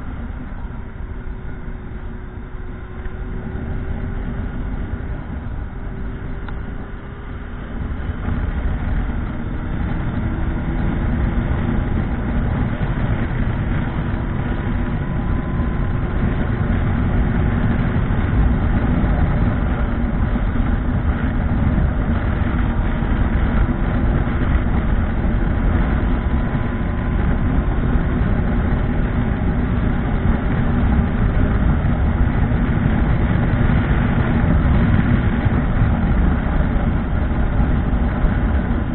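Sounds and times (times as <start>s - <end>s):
motorcycle engine rumbling: 0.0s - 38.9s.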